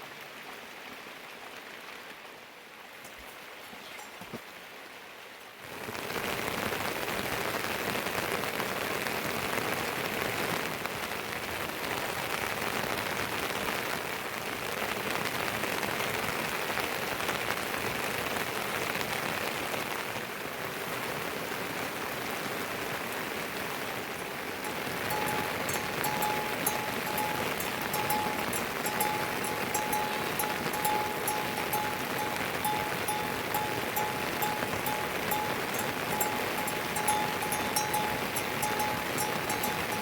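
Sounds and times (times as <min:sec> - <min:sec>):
heavy rain hissing: 0:00.0 - 0:40.0.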